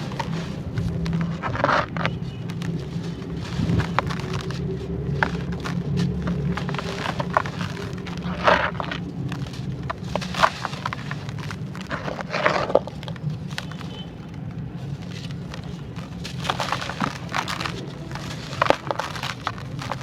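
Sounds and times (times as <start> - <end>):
dried sand-clay crumbling: 0.0 - 20.0.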